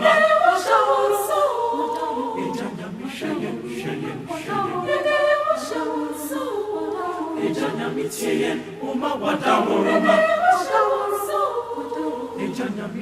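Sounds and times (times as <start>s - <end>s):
choir singing unaccompanied: 0.0s - 13.0s.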